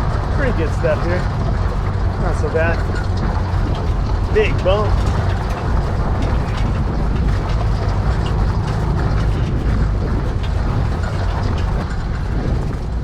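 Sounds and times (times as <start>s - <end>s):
body and loose gear rattling: 0.0s - 13.0s
van engine droning: 0.0s - 13.0s.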